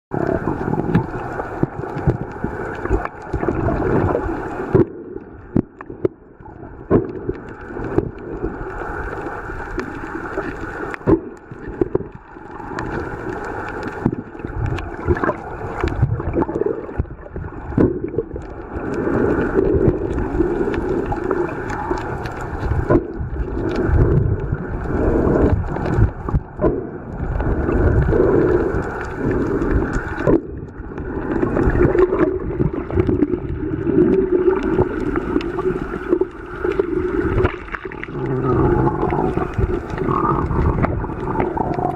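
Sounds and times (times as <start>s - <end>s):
muffled underwater water sloshing: 0.1s - 41.9s
bubbly clicks: 0.2s - 41.9s.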